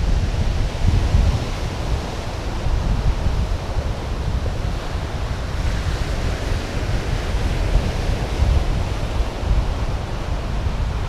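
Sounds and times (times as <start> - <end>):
surf hissing on beach: 0.0 - 11.0
wind buffeting microphone: 0.0 - 11.0.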